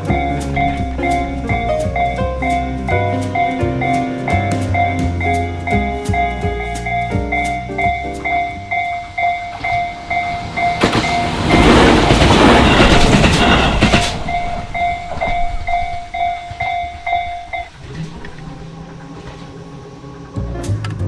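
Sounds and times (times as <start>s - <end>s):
level crossing warning bell: 0.0s - 19.5s
train wheels clattering over rails: 0.0s - 20.0s.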